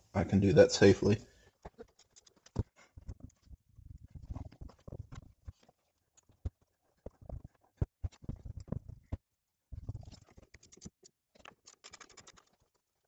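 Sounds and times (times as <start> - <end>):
clicks and rustles of gloved hands: 1.5 - 13.0.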